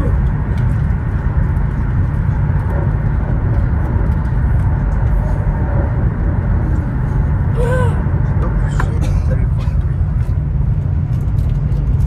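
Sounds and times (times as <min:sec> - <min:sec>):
train interior noise: 0:00.0 - 0:12.0.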